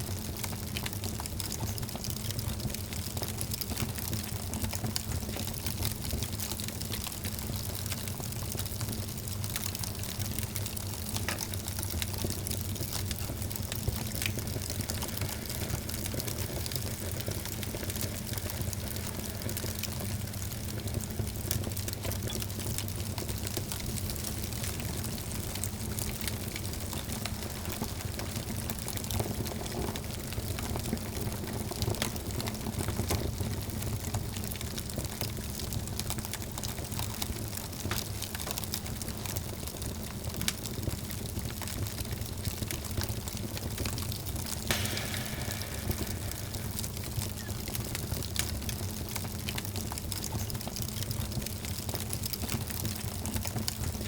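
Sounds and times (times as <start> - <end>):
low rumble of flame: 0.0 - 54.0
wood fire crackling: 0.1 - 54.0.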